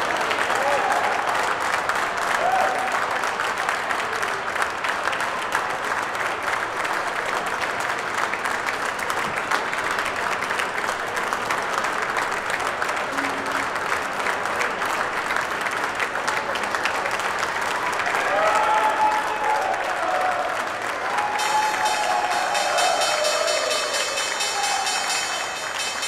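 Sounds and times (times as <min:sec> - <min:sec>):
crowd applauding: 0:00.0 - 0:26.0.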